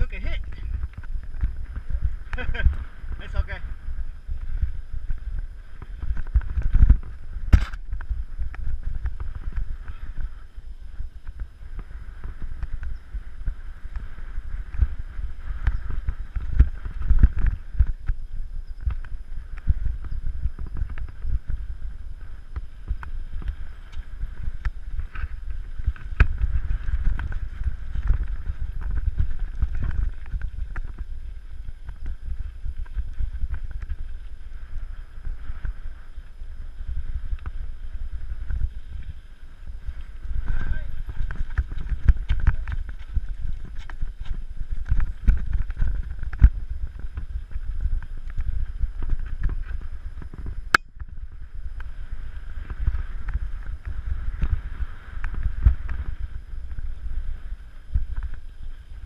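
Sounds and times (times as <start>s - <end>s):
mountain bike rattling: 0.0s - 59.0s
wind rumble on microphone: 0.0s - 59.0s.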